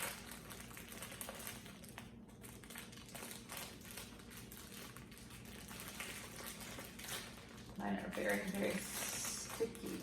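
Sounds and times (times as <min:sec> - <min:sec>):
low room hum: 0:00.0 - 0:10.0
plastic bag crinkling: 0:00.0 - 0:10.0.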